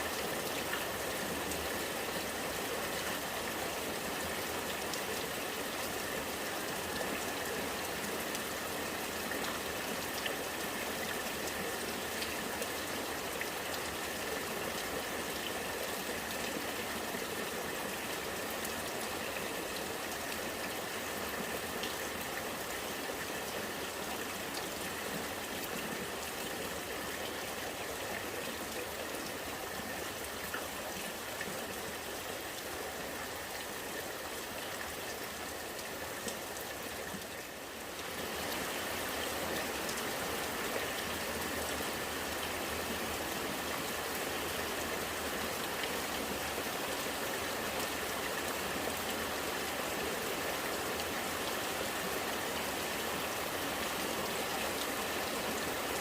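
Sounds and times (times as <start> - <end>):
rain falling: 0.0 - 56.0
rainwater running and gurgling: 0.0 - 56.0.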